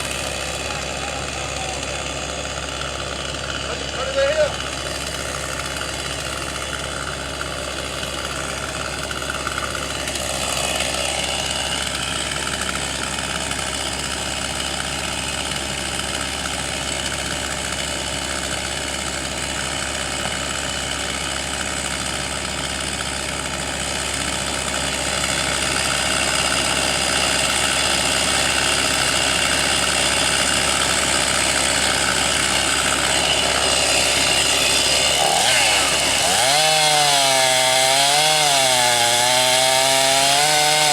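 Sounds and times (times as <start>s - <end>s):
engine idling: 0.0s - 36.9s.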